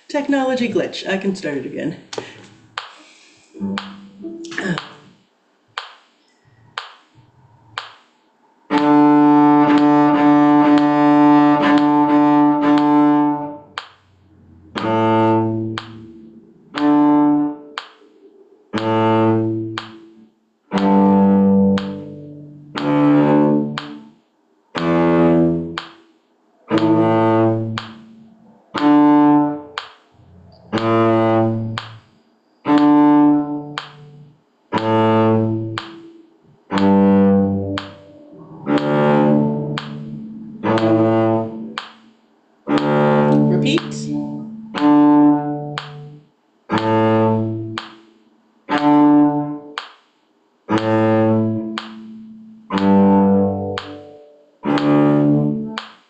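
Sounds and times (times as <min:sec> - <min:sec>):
cello bowing notes: 0:03.5 - 0:05.2, 0:08.6 - 0:49.8, 0:50.7 - 0:55.9.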